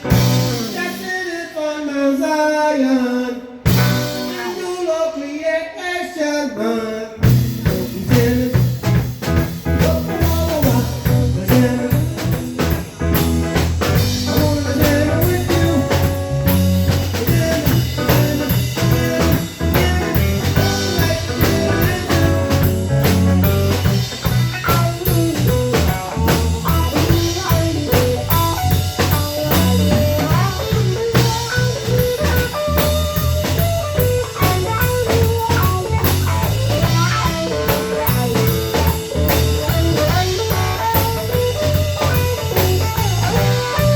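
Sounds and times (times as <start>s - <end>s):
blues band on drums and guitar: 0.0s - 1.4s, 3.6s - 4.9s, 7.2s - 43.9s.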